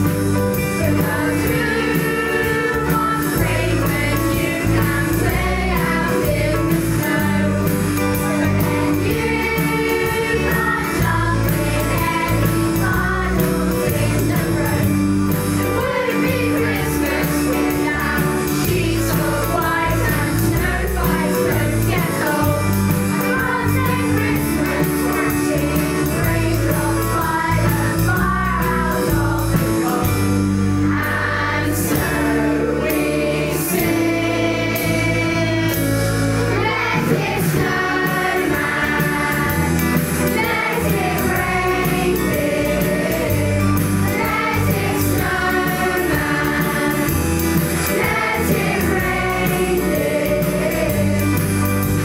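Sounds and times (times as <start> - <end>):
band with steady beat: 0.0 - 52.0.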